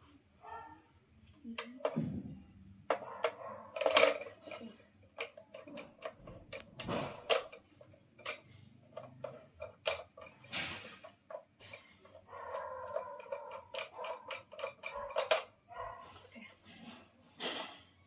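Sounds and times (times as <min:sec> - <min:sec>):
parts clicking and knocking: 0:01.2 - 0:16.0, 0:16.6 - 0:18.0.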